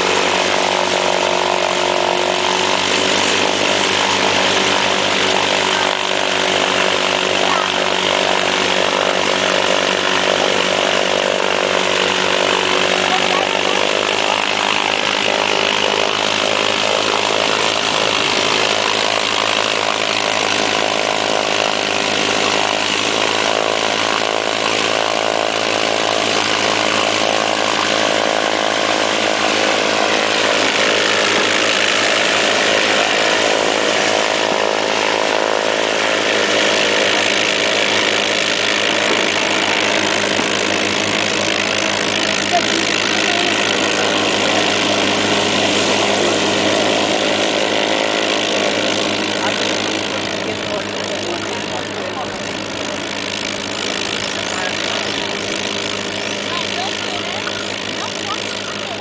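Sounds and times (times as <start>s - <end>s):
propeller aircraft engine: 0.0s - 59.0s.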